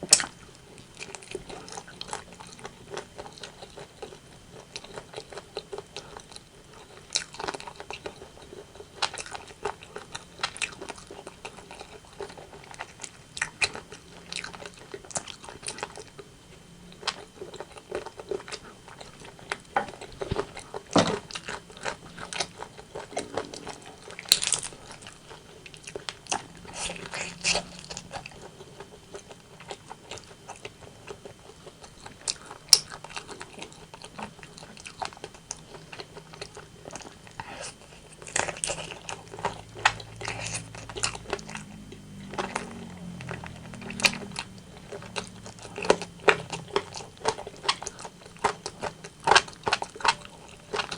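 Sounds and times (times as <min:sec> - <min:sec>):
wet chewing: 0:00.0 - 0:50.9.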